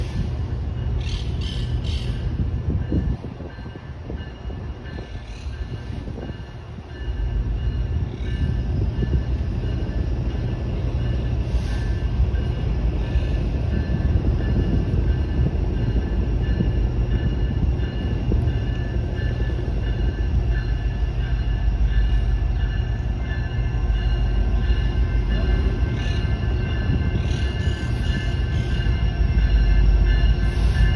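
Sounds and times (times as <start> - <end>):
freight train rumbling on rails: 0.0 - 30.9.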